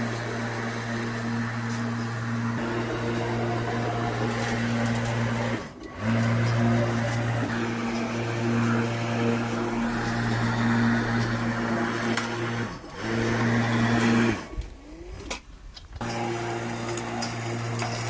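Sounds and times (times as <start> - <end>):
lawnmower motor whirring: 0.0 - 18.0.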